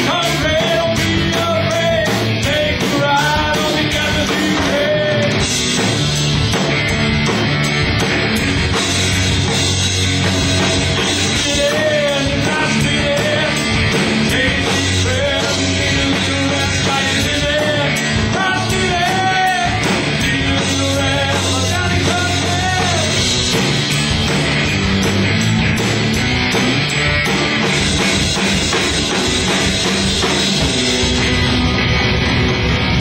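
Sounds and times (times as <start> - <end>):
rock band playing live: 0.0 - 33.0.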